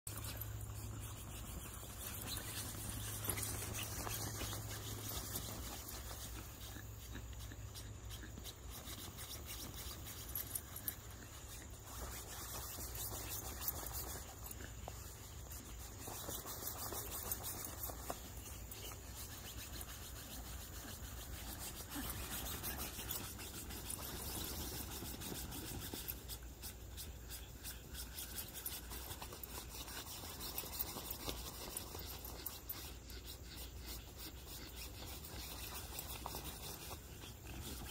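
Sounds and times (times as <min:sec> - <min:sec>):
nylon tent and plastic balls rustling: 0:00.1 - 0:07.1, 0:07.7 - 0:37.9.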